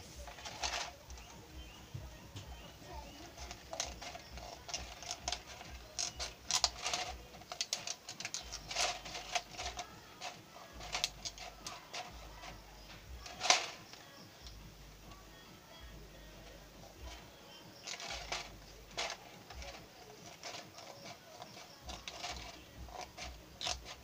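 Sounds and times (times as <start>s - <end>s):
plastic bottle crackling: 0.0s - 15.3s, 16.4s - 24.0s.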